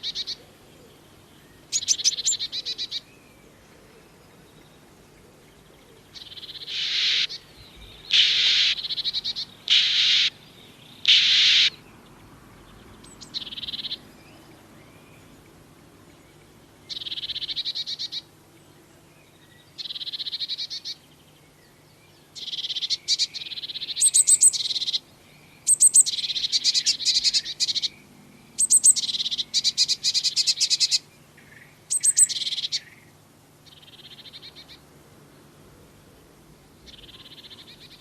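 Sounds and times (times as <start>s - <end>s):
birds buzzy calls: 0.0s - 35.1s, 35.7s - 38.0s.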